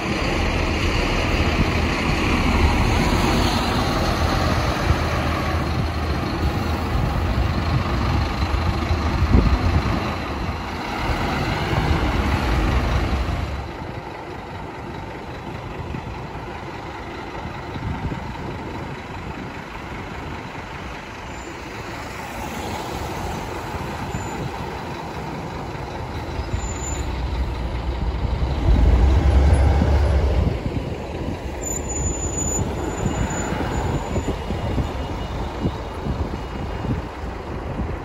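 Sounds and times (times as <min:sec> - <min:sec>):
bus diesel engines: 0:00.0 - 0:38.0.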